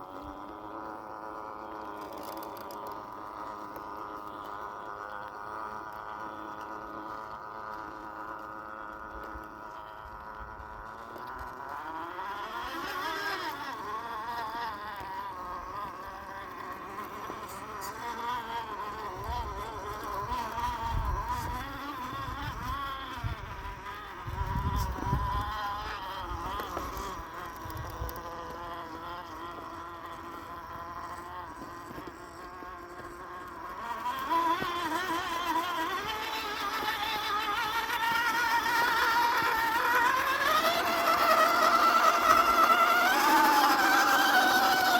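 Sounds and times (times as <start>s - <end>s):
electric motor and gearbox whining: 0.0s - 44.9s.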